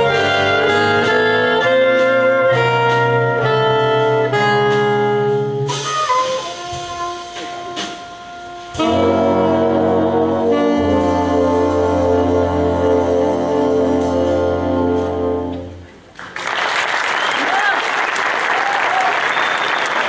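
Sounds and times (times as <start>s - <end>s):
jazz big band playing: 0.0s - 16.2s.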